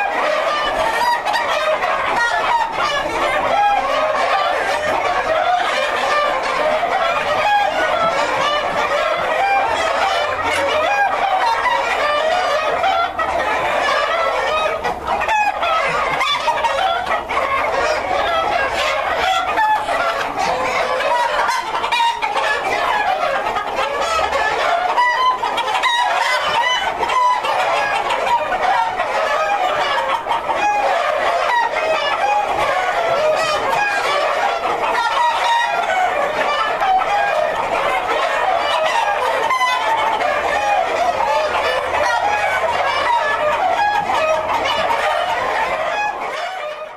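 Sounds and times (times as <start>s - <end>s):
hens clucking: 0.0s - 46.9s
roosters crowing: 0.0s - 46.9s.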